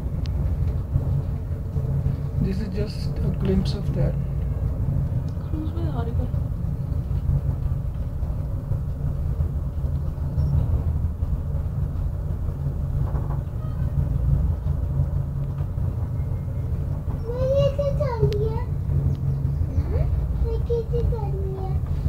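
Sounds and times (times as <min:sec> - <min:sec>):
cable car cabin rumble: 0:00.0 - 0:22.0.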